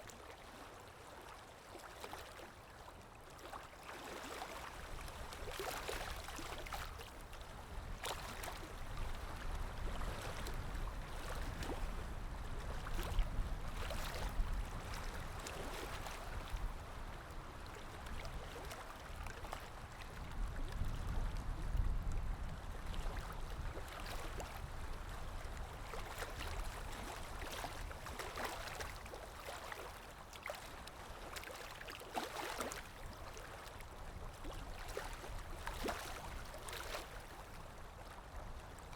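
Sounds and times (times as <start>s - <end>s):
river water lapping and gurgling: 0.0s - 38.9s.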